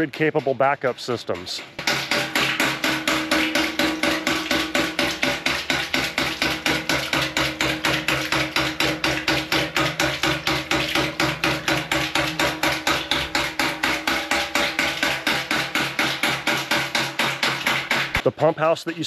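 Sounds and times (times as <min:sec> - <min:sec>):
pump valve clacking: 0:00.0 - 0:18.2
water spurting: 0:00.0 - 0:19.0.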